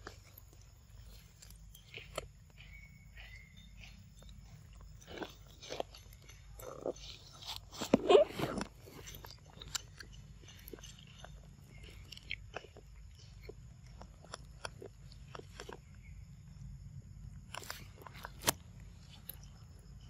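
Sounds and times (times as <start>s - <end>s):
monkey chewing fruit: 0.0s - 16.4s, 17.3s - 20.0s.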